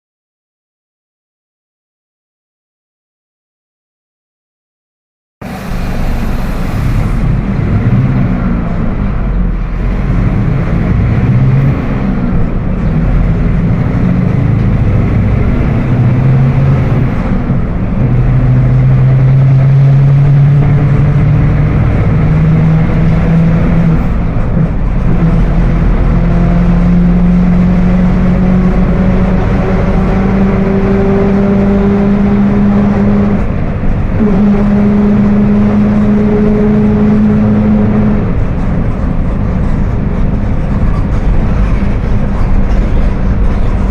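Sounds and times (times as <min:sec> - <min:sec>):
bus engine and road noise: 0:05.4 - 0:43.9
differential growling whine: 0:05.4 - 0:43.9.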